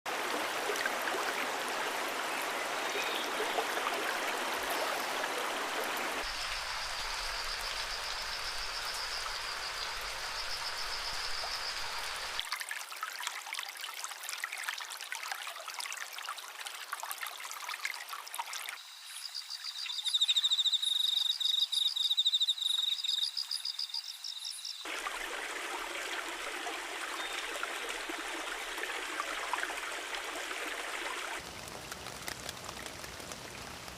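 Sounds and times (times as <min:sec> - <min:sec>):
stream water flowing: 0:00.1 - 0:19.0, 0:24.8 - 0:33.9.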